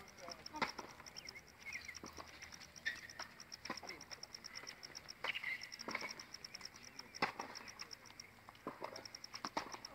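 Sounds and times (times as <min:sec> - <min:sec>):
insect chirping: 0:00.0 - 0:09.9.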